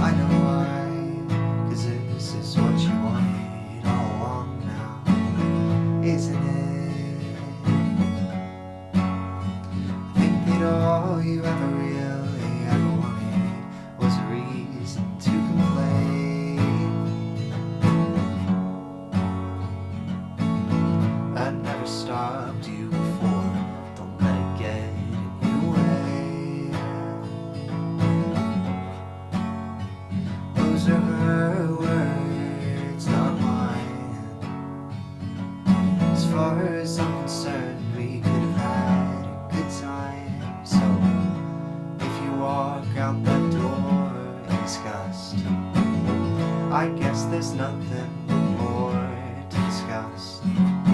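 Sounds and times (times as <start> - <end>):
acoustic guitar chords: 0.0 - 50.9.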